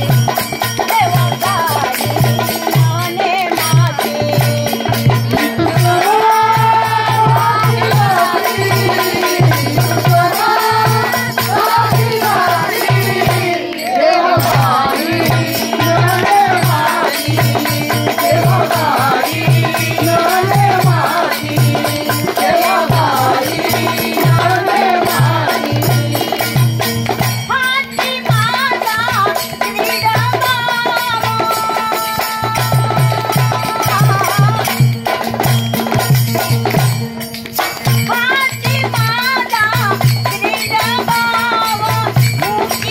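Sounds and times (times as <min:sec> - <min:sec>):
rattle percussion: 0:00.0 - 0:42.9
steady drum beat: 0:00.0 - 0:42.9.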